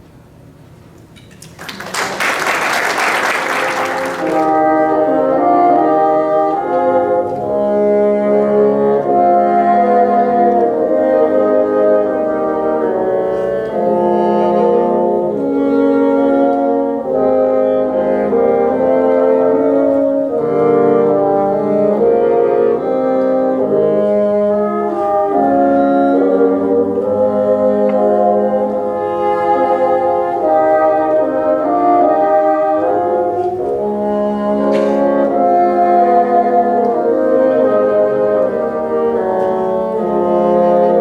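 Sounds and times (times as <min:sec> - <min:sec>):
bassoon ensemble playing chords: 0:02.0 - 0:41.0.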